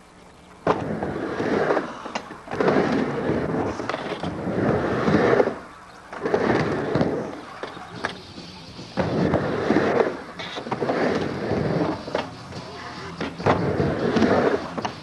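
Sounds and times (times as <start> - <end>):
skateboard wheels rolling on ramp: 0.4 - 15.0.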